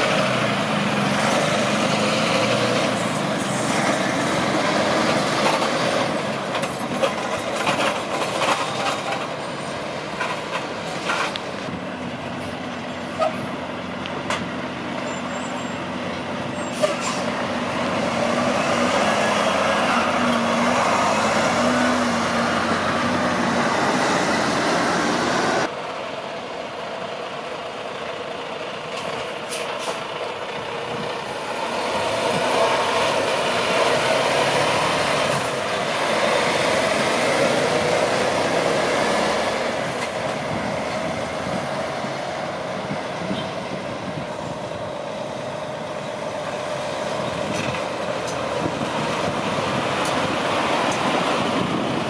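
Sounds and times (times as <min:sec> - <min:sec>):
trucks driving past: 0:00.0 - 0:52.0.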